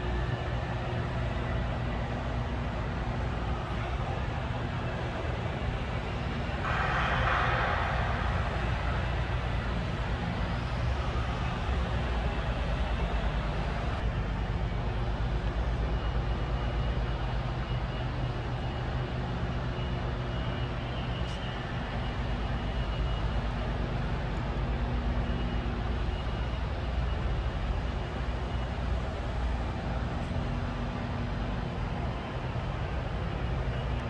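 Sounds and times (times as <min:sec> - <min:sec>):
factory machinery rumble and hum: 0:00.0 - 0:34.0
faint high whine: 0:00.0 - 0:34.0.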